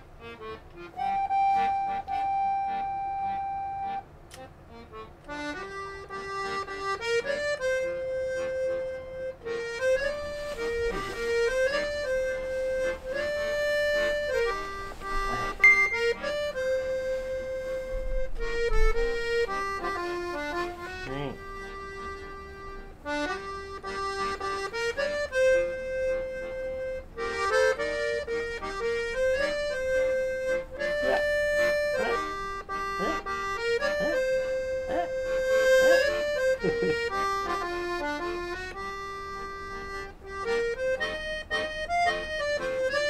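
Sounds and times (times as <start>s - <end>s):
slow melody of held notes: 0.0s - 43.0s.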